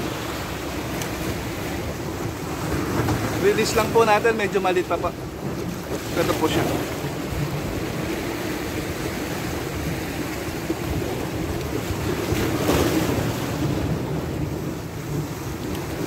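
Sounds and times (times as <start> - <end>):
waves breaking against rocks: 0.0 - 16.0.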